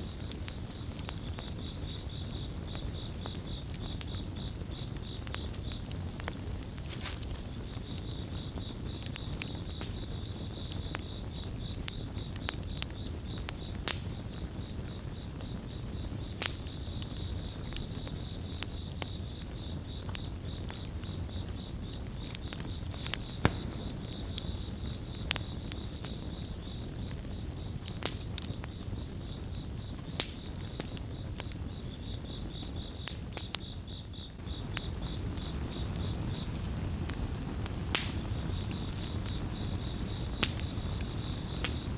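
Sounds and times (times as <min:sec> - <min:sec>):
campfire crackling and popping: 0:00.0 - 0:41.9
cricket chirping: 0:00.0 - 0:41.9.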